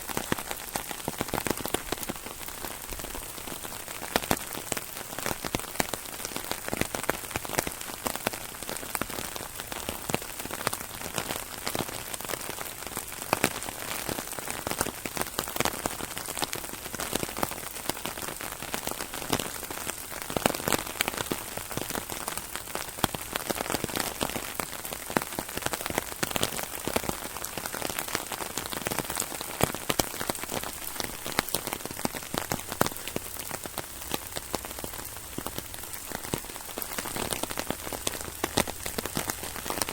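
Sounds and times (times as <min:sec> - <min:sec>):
rain hissing on an umbrella: 0:00.0 - 0:39.9.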